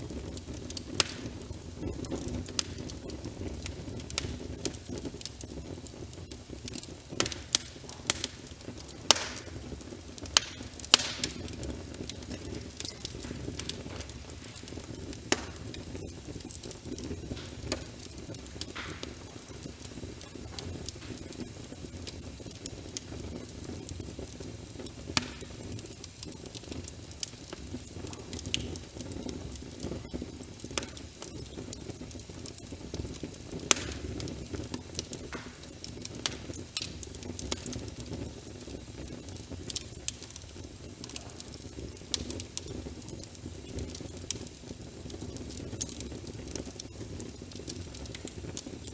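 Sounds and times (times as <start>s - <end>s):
flames rumbling: 0.0s - 48.9s
wood fire popping and snapping: 0.0s - 48.9s.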